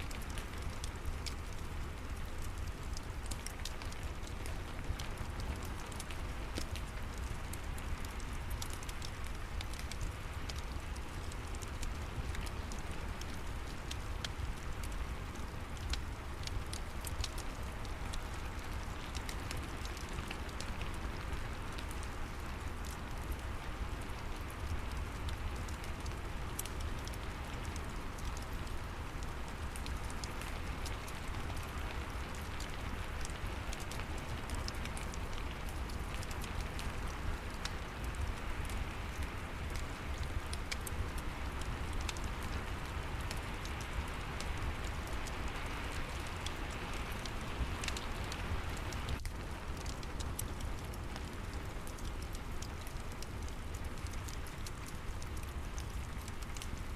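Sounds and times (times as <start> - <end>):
steady rain: 0.0 - 56.9
wood fire crackling: 0.0 - 56.9.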